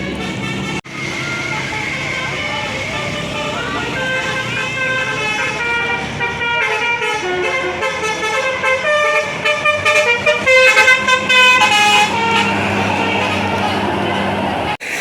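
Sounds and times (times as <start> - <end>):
bus musical horn playing stepped notes: 0.0 - 14.8.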